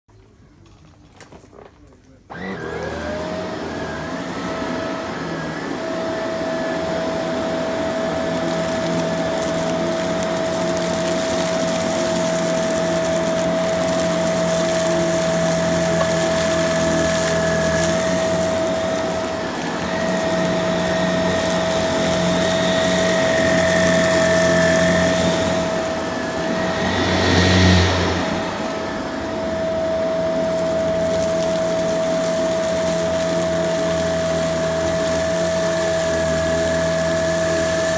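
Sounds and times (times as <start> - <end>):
vacuum cleaner running: 2.3 - 37.9.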